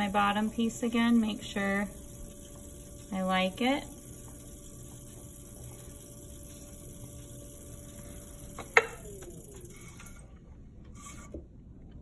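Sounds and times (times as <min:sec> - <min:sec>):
pottery wheel motor whine: 0:00.0 - 0:11.3.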